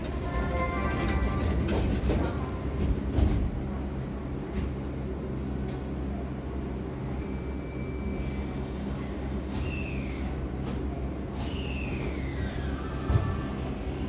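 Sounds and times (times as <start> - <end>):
low train hum: 0.0 - 14.0.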